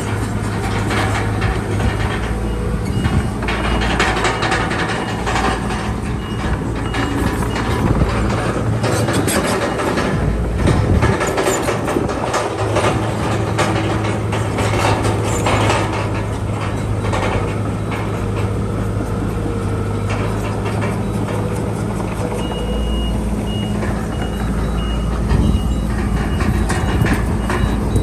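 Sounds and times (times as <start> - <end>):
bulldozer diesel engine running: 0.0 - 28.0
steel tracks clanking: 0.0 - 28.0.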